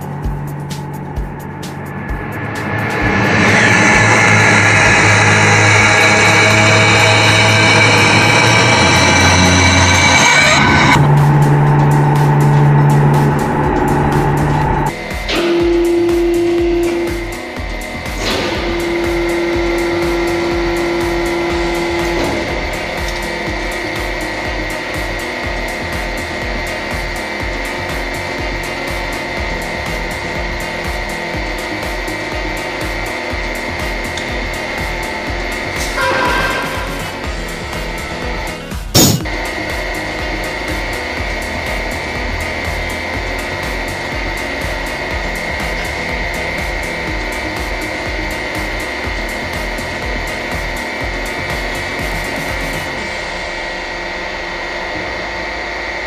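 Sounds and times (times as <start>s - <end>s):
background music with beat: 0.0s - 56.0s
pulsing bass: 0.0s - 56.0s
pump motor high tone: 0.0s - 56.0s.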